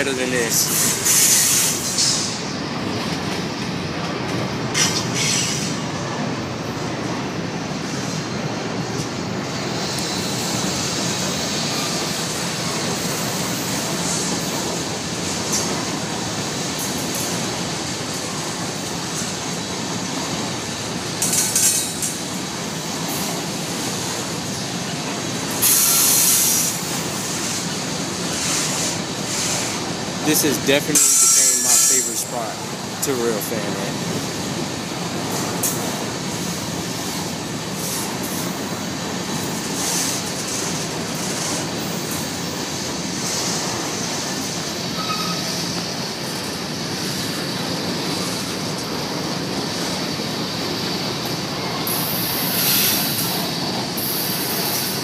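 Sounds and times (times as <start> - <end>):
freight trains rumbling and clacking: 0.0 - 55.0.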